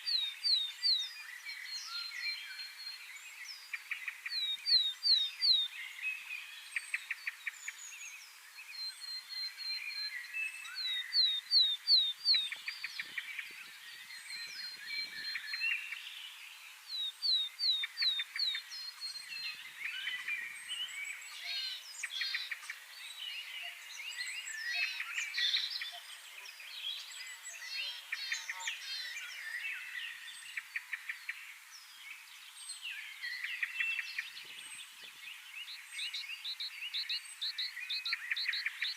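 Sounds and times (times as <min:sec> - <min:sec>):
birds chorus: 0:00.0 - 0:38.9.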